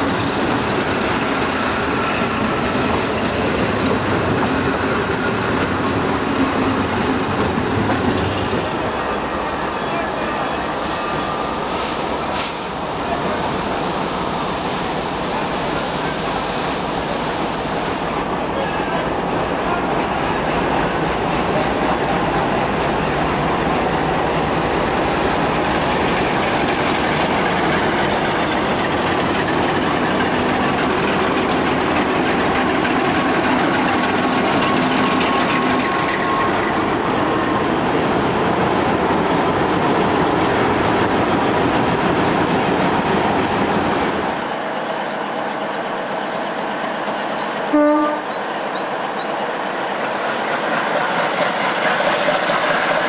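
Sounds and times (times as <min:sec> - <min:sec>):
diesel locomotives passing: 0:00.0 - 0:53.0.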